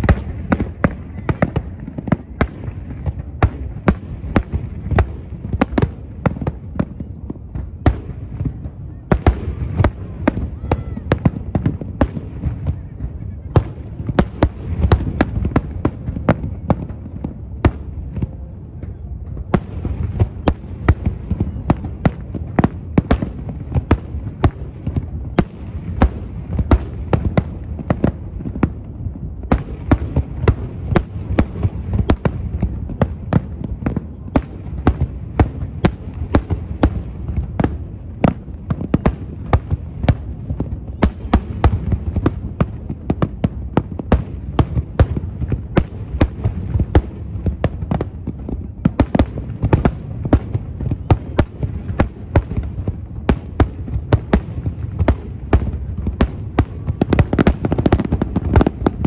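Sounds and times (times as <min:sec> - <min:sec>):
fireworks bangs and pops: 0:00.0 - 0:59.0.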